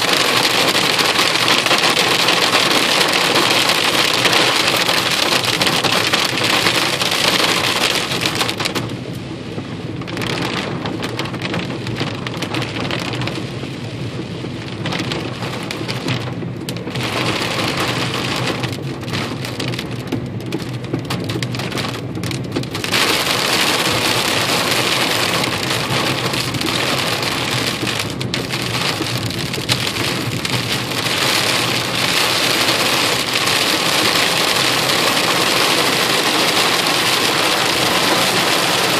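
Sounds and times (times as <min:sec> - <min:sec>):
hail pelting a car roof: 0:00.0 - 0:38.9.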